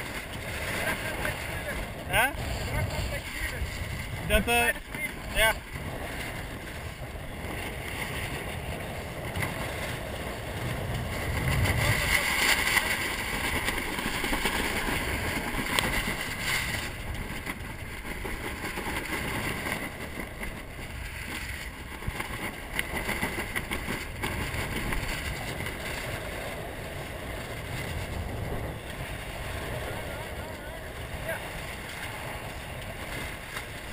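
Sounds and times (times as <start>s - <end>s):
water rushing along hull: 0.0s - 33.9s
wind buffeting microphone: 0.0s - 33.9s.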